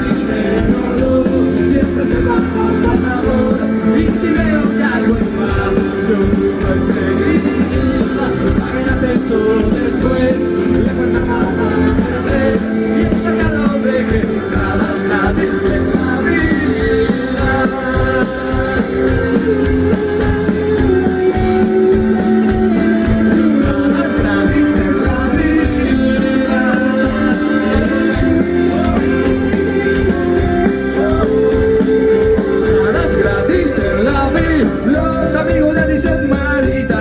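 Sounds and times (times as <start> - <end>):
lead voice singing: 0.0 - 37.0
rock band playing: 0.0 - 37.0.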